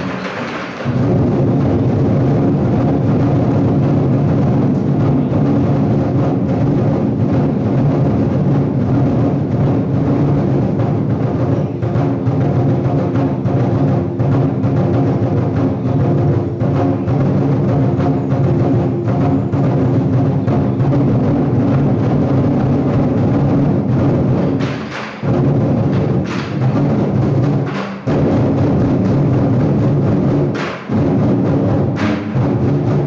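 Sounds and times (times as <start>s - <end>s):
loud drums and percussion music: 0.0s - 33.0s.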